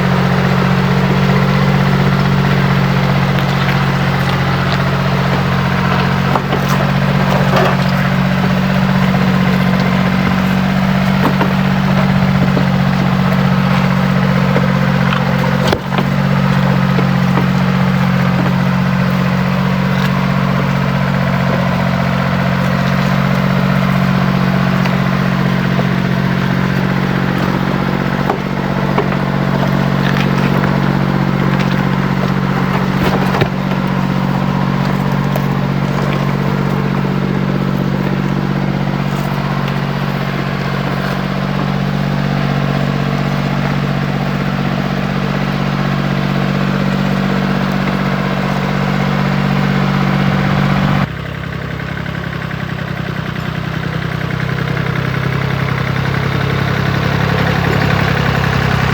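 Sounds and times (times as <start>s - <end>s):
motor humming: 0.0s - 51.1s.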